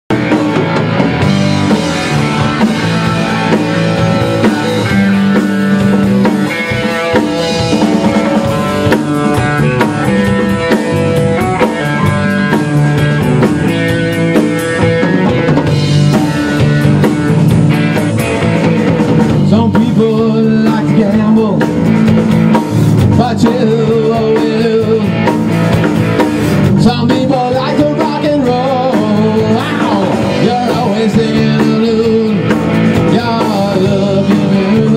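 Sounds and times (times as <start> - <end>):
drum kit beat: 0.1 - 34.9
electric guitar: 0.1 - 34.9.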